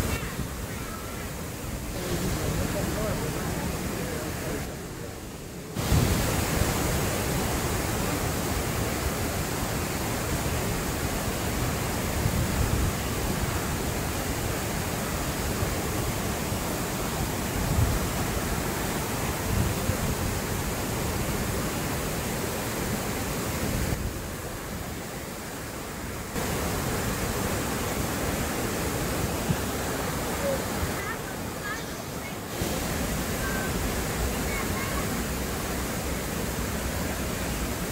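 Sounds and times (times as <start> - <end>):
water rushing over rocks: 0.0 - 37.9.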